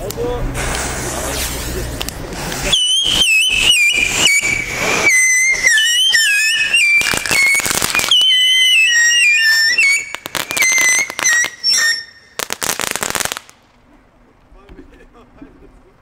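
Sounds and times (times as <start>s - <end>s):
firework crackling pops: 0.0s - 13.8s
whistling fireworks screeching: 0.6s - 13.5s.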